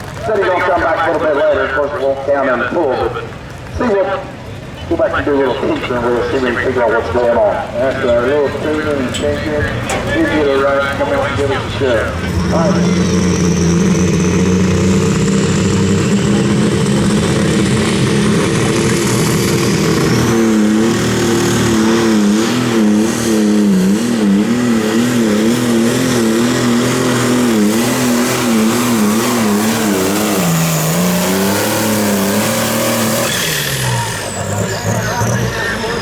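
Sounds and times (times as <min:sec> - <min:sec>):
tractor engine running hard: 0:00.0 - 0:36.0.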